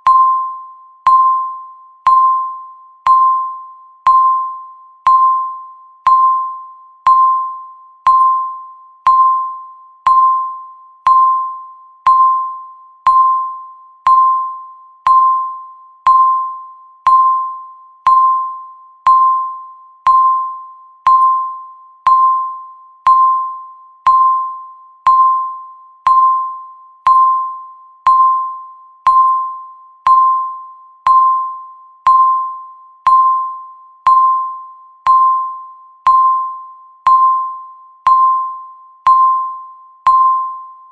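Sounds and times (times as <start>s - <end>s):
countdown timer beeps: 0.0s - 40.9s.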